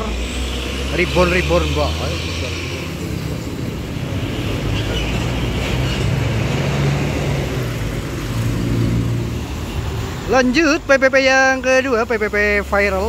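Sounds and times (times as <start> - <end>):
bus diesel engine driving past: 0.0 - 13.0
road noise: 0.0 - 13.0.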